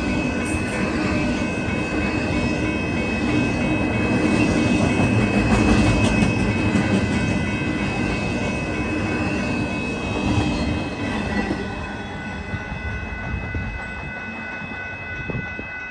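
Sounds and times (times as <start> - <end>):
high-pitched tone: 0.0 - 15.9
train wheels rumbling on rail: 0.0 - 15.9.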